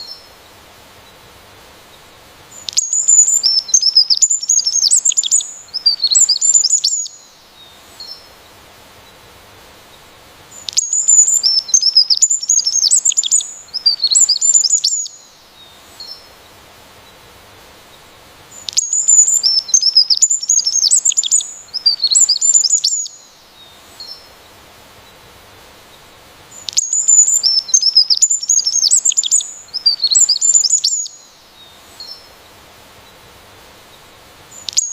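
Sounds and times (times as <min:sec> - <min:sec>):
songbird chirping song: 0:00.0 - 0:34.9.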